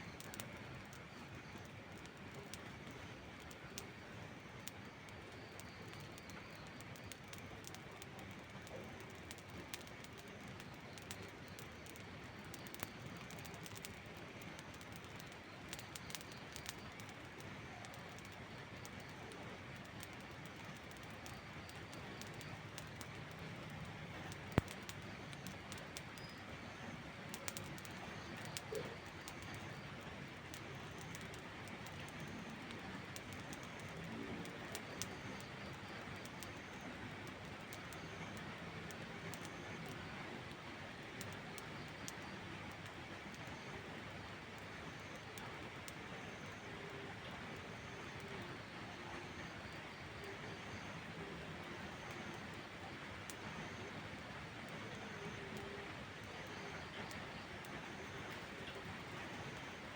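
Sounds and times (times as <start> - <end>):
campfire crackling: 0.0 - 59.9
steady rain: 0.0 - 59.9
fire popping: 0.1 - 59.9.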